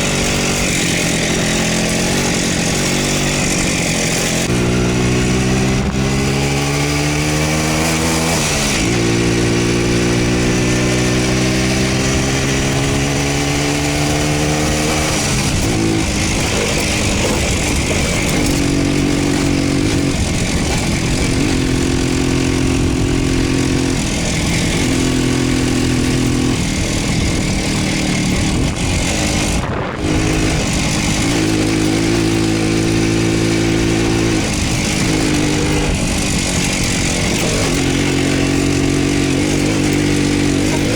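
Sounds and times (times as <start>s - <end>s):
two-stroke motorcycle engine accelerating: 0.0s - 40.9s.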